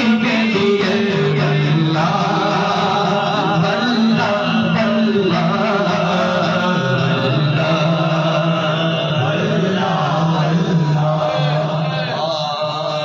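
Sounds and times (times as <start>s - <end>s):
man singing melodically: 0.0s - 13.0s.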